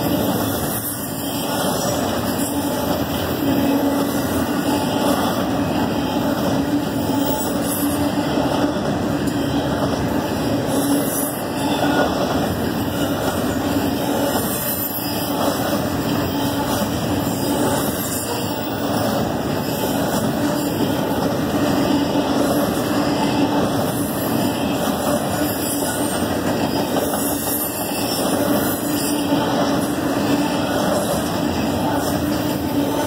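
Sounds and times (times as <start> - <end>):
steel wheels rolling on rail: 0.0 - 33.0.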